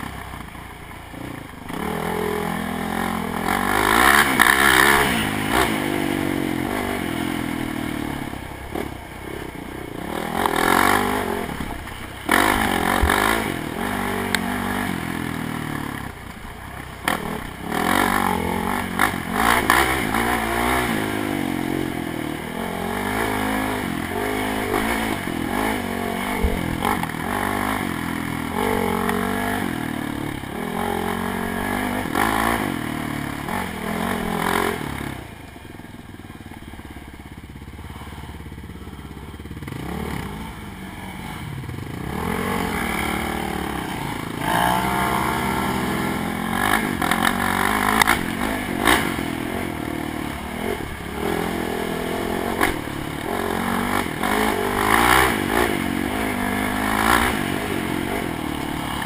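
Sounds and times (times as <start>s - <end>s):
quad engine revving: 1.1s - 35.5s, 36.9s - 59.0s.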